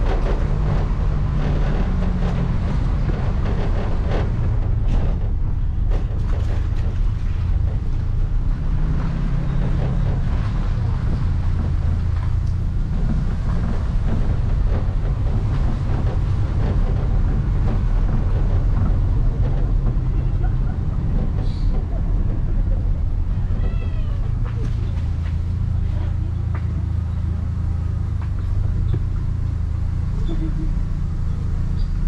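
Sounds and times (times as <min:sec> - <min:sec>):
vehicle rumble: 0:00.0 - 0:32.0
wind noise: 0:00.0 - 0:32.0.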